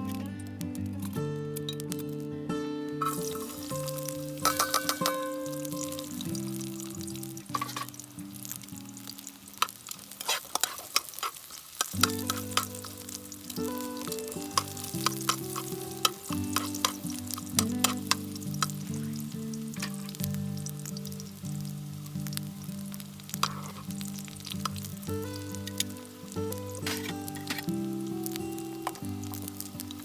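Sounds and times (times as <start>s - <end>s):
food sizzling and popping: 0.0s - 30.0s.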